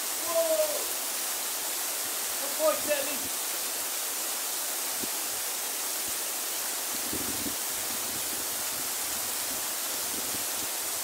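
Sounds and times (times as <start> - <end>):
waterfall pouring into pool: 0.0 - 11.0.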